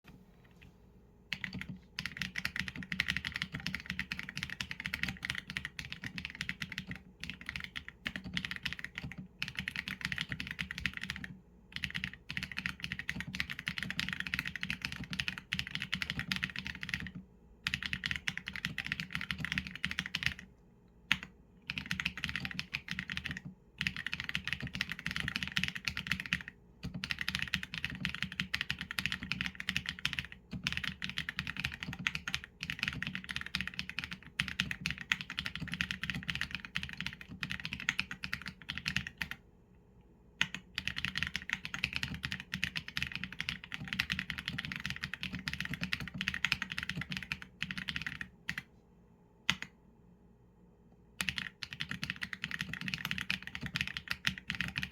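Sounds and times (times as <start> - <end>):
typing on mechanical keyboard: 1.3 - 20.5, 21.1 - 39.4, 40.4 - 48.7, 51.2 - 54.9.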